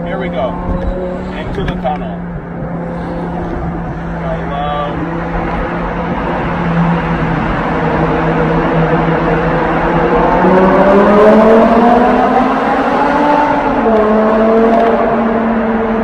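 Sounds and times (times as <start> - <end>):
car exhaust accelerating in tunnel: 0.0 - 16.0.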